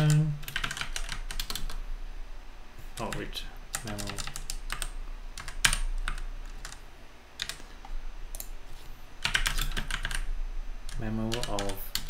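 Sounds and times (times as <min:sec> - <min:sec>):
keyboard typing: 0:00.0 - 0:01.8, 0:02.9 - 0:06.8, 0:07.4 - 0:12.0.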